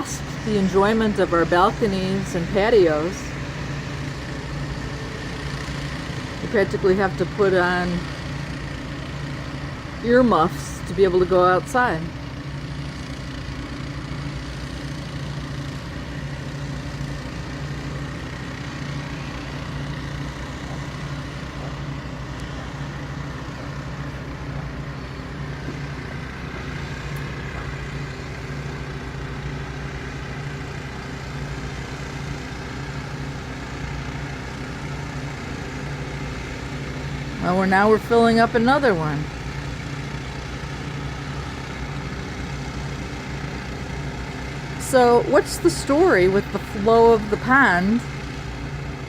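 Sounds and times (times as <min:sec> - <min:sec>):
water pump engines droning: 0:00.0 - 0:49.0.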